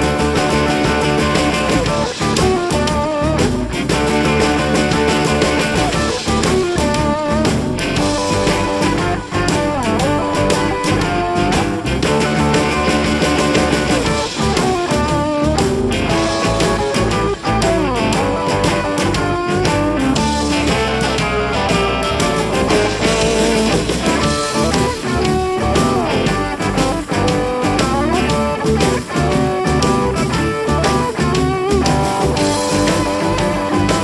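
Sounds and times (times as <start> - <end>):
electric guitar lead with bends: 0.0 - 34.0.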